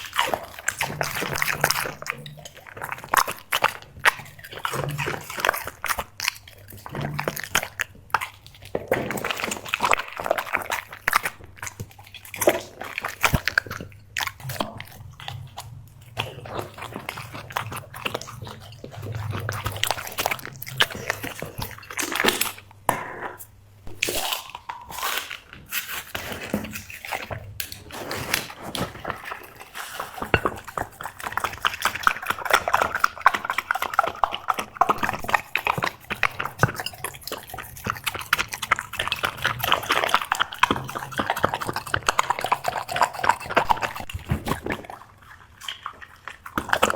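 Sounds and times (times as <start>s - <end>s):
dog chewing and crunching food: 0.0s - 46.9s.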